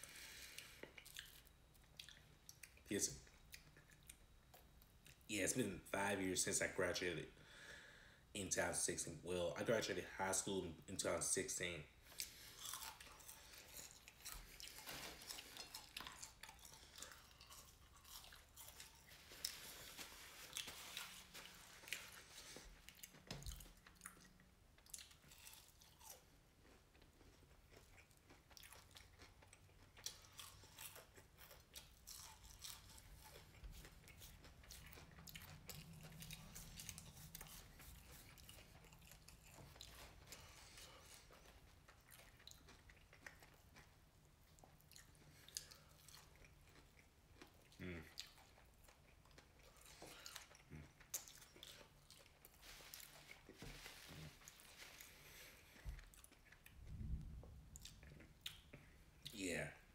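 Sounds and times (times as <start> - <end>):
chewing and crunching food: 0.0 - 7.1, 8.6 - 59.9.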